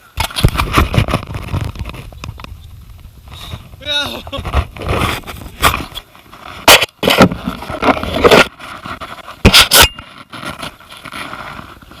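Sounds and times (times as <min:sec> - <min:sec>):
kayak and paddle knocking and scraping: 0:00.0 - 0:12.0.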